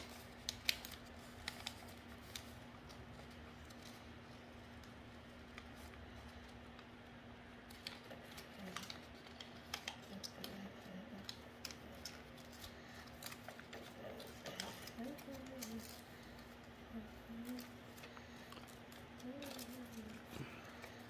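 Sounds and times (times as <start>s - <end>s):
faint steady hum: 0.0s - 21.0s
paper crinkling and creasing: 0.0s - 21.0s.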